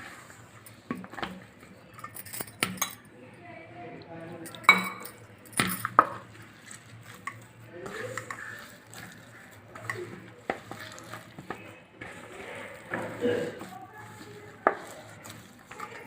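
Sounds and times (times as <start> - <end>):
hands kneading dough: 0.0 - 2.8, 4.5 - 16.0.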